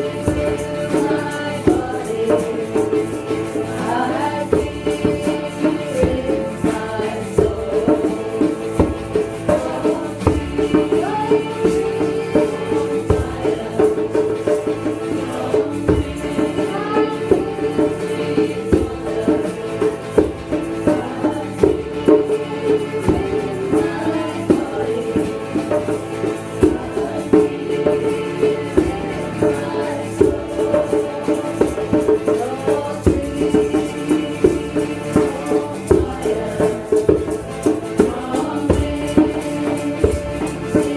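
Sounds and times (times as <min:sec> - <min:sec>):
held chords: 0:00.0 - 0:40.9
shaker keeping a beat: 0:00.0 - 0:40.9
voices chanting: 0:00.0 - 0:40.9.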